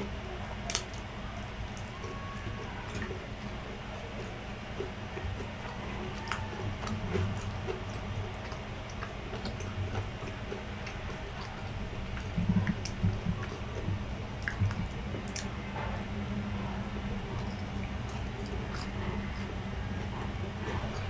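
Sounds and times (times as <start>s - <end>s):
chewing and wet mouth sounds: 0.0s - 21.0s.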